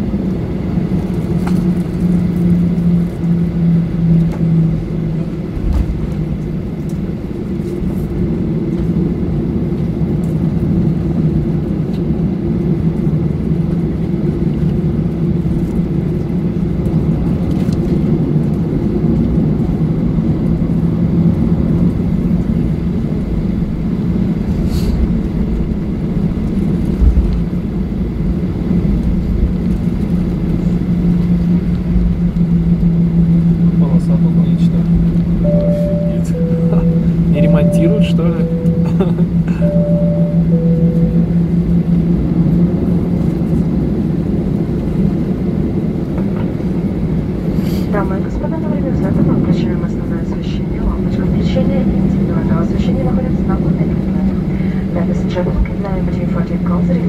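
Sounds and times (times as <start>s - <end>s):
engine rumble inside vehicle: 0.0s - 57.0s.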